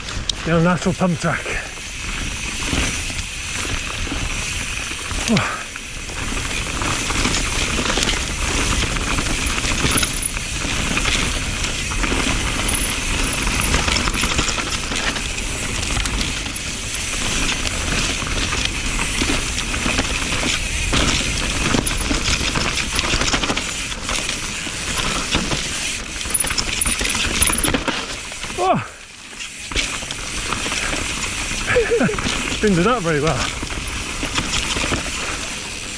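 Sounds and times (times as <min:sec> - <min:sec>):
bike chain and frame rattling: 0:00.0 - 0:35.9
bike tyres rolling on trail: 0:00.0 - 0:35.9.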